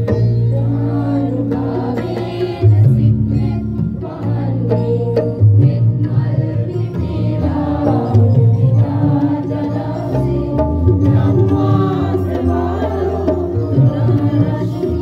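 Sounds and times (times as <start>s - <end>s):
group singing over microphones: 0.0s - 15.0s
tabla: 0.0s - 15.0s.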